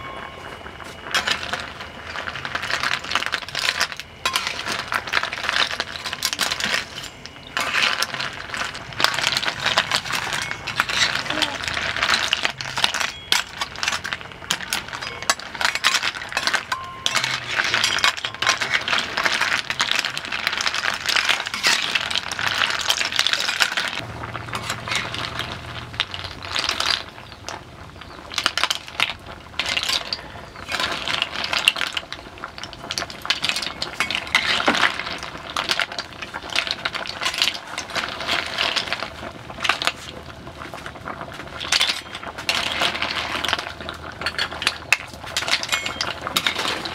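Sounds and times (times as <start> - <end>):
snail shells clattering in a wok: 1.0 - 46.9.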